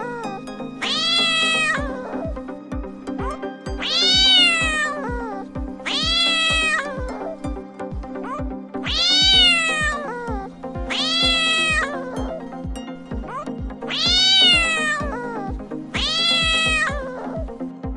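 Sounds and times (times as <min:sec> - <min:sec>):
cat meowing: 0:00.1 - 0:02.4, 0:03.2 - 0:07.4, 0:08.2 - 0:12.4, 0:13.2 - 0:17.5
music with thumping beat: 0:00.2 - 0:17.9.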